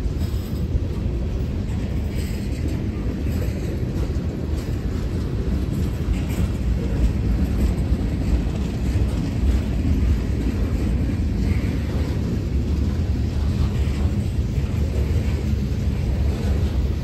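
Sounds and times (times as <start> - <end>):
train rumbling by: 0.0 - 17.0.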